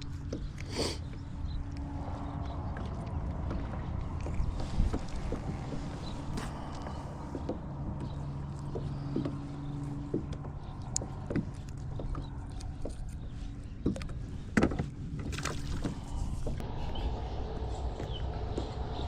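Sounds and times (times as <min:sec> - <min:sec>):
low steady hum: 0:00.0 - 0:19.0
water sloshing against hull: 0:00.0 - 0:19.0.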